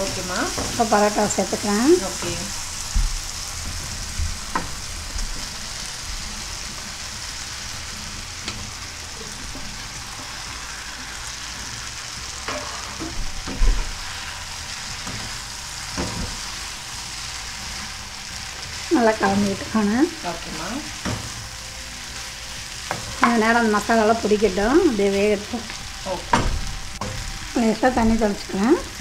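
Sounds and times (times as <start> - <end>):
masala sizzling in a pan: 0.0 - 29.0.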